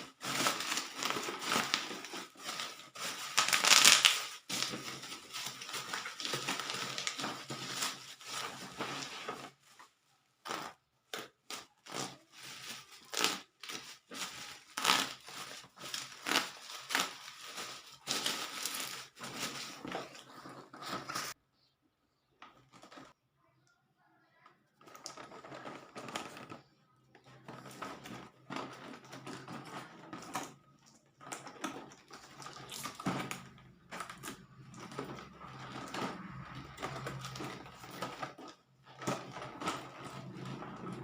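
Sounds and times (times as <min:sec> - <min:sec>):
packaging crinkling: 0:00.0 - 0:21.4, 0:24.8 - 0:41.0.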